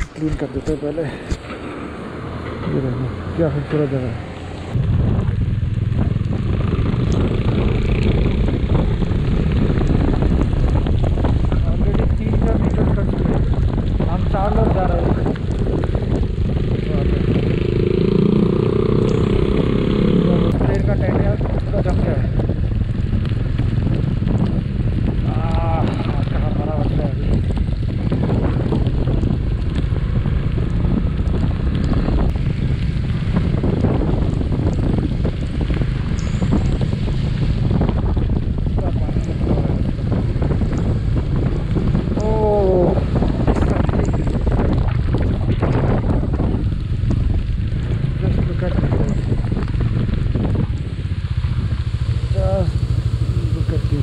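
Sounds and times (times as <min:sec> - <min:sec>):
motorcycle engine rumble: 0:00.0 - 0:54.0
wind buffeting microphone: 0:00.0 - 0:54.0.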